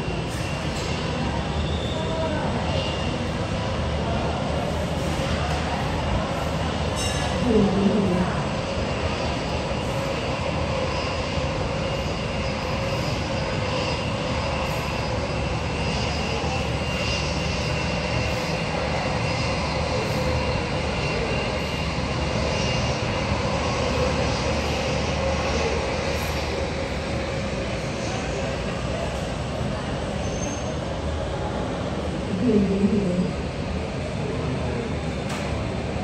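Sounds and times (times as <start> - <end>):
airplane engines running: 0.0 - 36.0.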